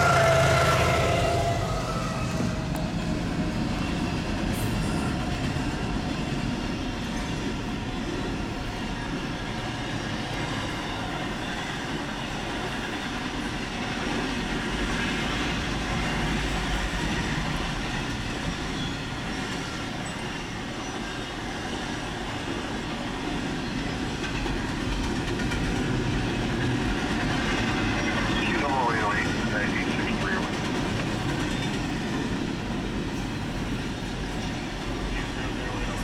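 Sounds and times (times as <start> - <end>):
freight train wheels rumbling on rails: 0.0 - 36.0.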